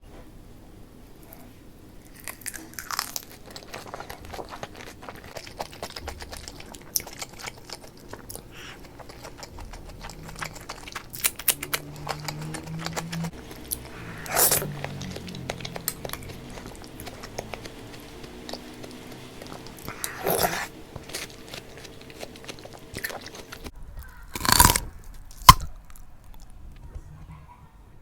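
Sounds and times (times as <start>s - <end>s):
chewing and crunching food: 1.2s - 27.0s.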